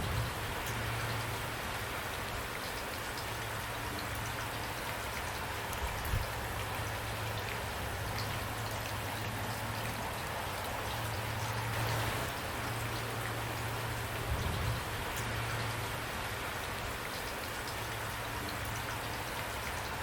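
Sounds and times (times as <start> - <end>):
rain drops ticking: 0.0 - 20.0.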